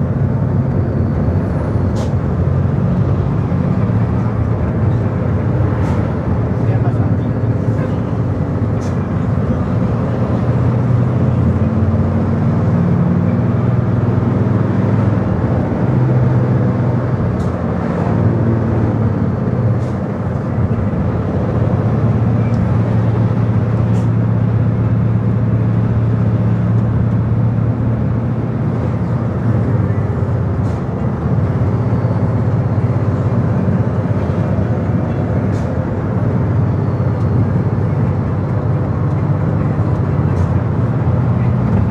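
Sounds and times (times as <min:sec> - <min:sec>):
tyre and road noise: 0:00.0 - 0:41.9
vehicle engine drone: 0:00.0 - 0:41.9.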